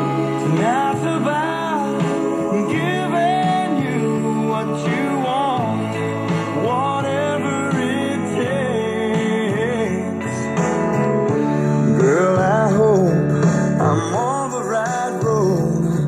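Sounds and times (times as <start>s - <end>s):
song playing from radio speaker: 0.0s - 16.0s.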